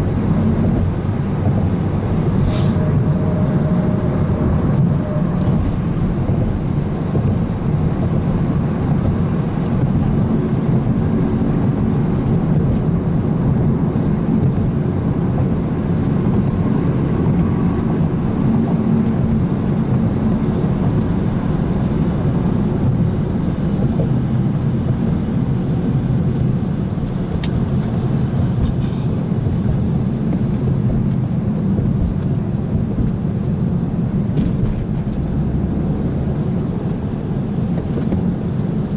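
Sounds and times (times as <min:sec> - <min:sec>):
car engine running: 0:00.0 - 0:38.9
road and tyre noise: 0:00.0 - 0:38.9.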